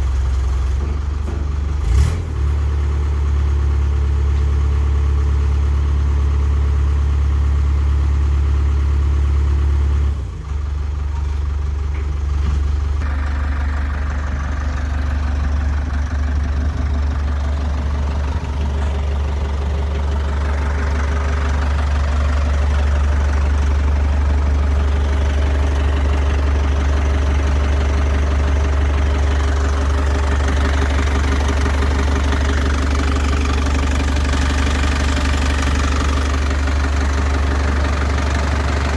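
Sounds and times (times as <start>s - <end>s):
diesel engine idling with knocking: 0.0s - 38.9s.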